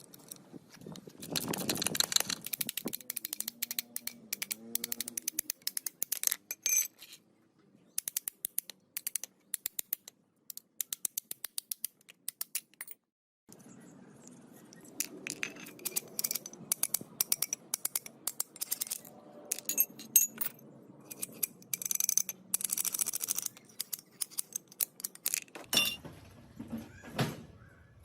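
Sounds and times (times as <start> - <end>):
metal parts and tools clinking: 0.0 - 7.2, 8.0 - 26.0.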